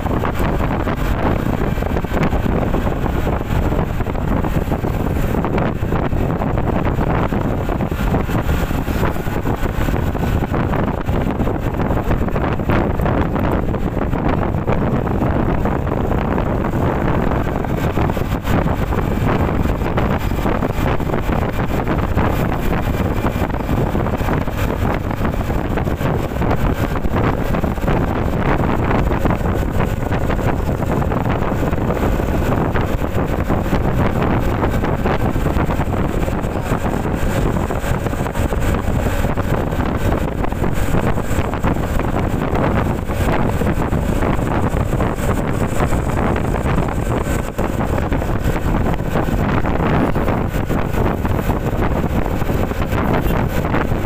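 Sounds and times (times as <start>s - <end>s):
motor scooter cruising: 0.0s - 54.0s
wind noise on microphone: 0.0s - 54.0s.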